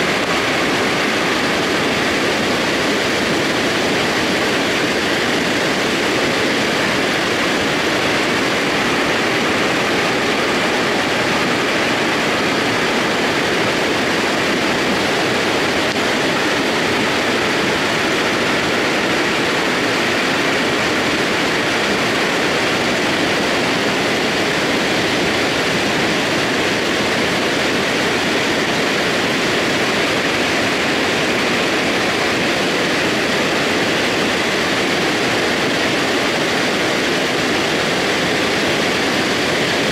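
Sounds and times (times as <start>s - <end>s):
mudflow of rock and water rushing: 0.0s - 39.9s.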